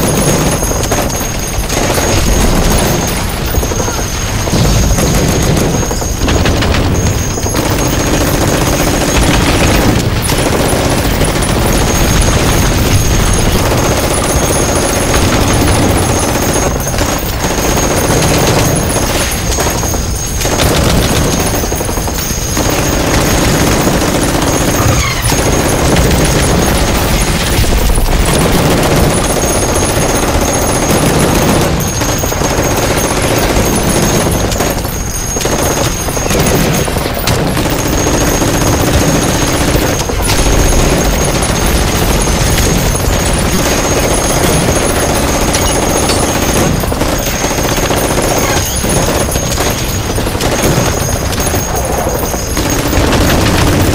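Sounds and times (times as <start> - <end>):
rapid gunfire: 0.0 - 53.9.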